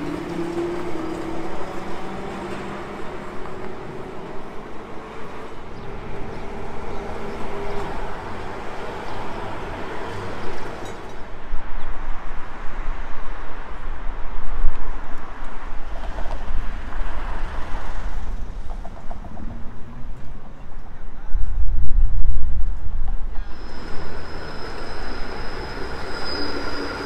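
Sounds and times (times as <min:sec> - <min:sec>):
road traffic: 0:00.0 - 0:21.2, 0:23.3 - 0:27.0
tram wheels rumbling: 0:00.0 - 0:21.8, 0:22.5 - 0:27.0.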